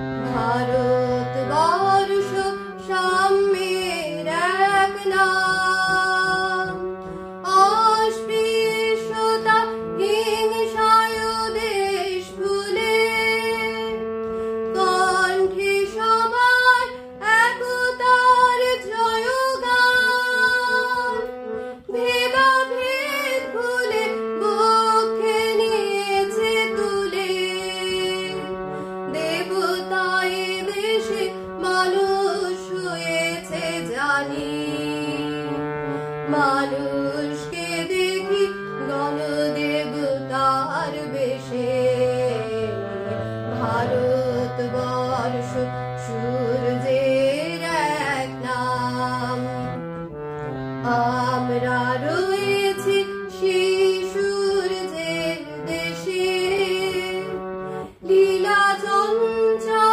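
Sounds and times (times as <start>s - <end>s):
woman singing: 0.0s - 35.6s, 36.2s - 49.8s, 50.7s - 59.9s
harmonium sustained notes: 0.0s - 59.9s.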